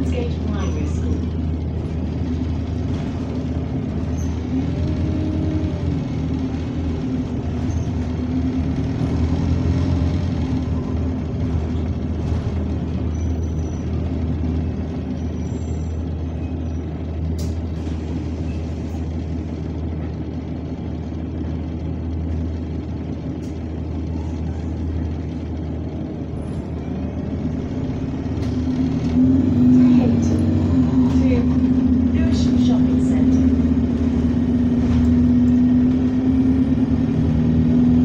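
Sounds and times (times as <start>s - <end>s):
bus engine droning: 0.0s - 38.0s.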